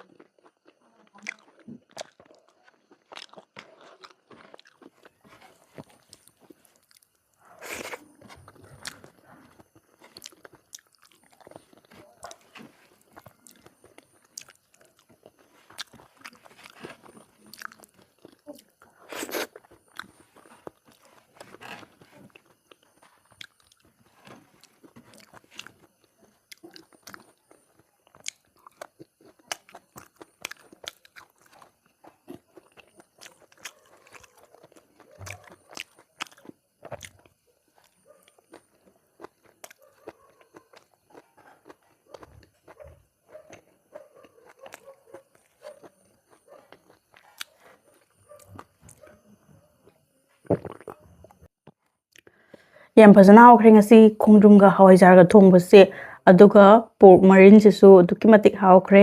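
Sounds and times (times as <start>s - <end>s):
person chewing and smacking: 0.0s - 49.2s, 49.9s - 52.3s.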